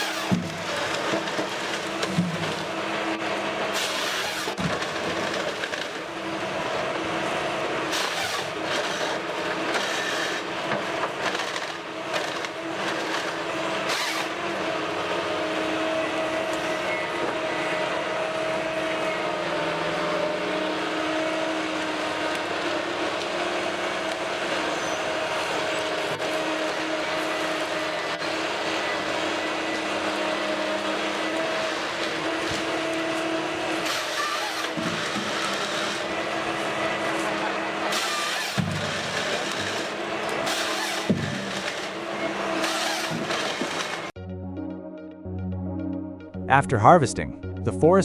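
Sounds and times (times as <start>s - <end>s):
heavy machinery engine whining: 0.0s - 48.0s.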